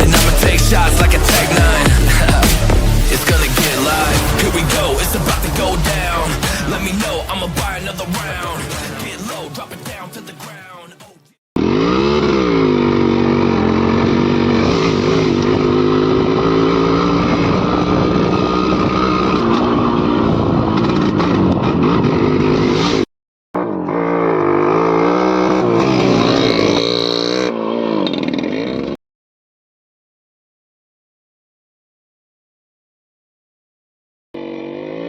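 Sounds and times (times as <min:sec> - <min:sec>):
two-stroke motorcycle engine revving: 0:00.0 - 0:10.3, 0:11.6 - 0:29.0, 0:34.4 - 0:35.0.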